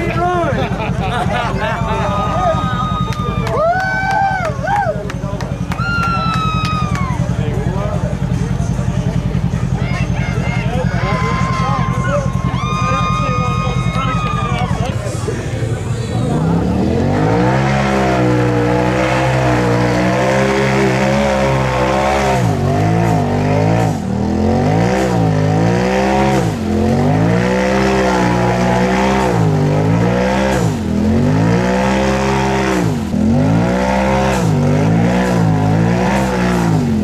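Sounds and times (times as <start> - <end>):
utility vehicle engine revving: 0.0 - 37.0.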